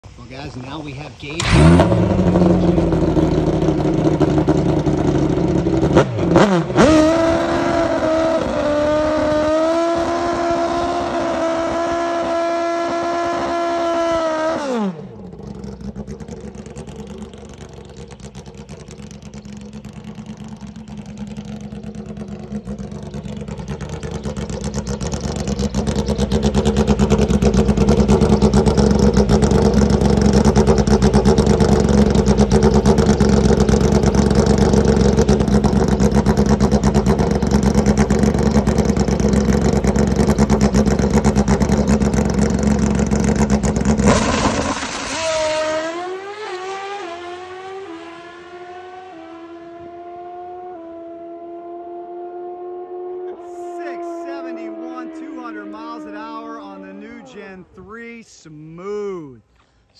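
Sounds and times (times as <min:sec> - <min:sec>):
rough engine sound: 0:00.0 - 0:50.2, 0:53.1 - 0:58.2
motorcycle engine revving: 0:01.2 - 0:57.6.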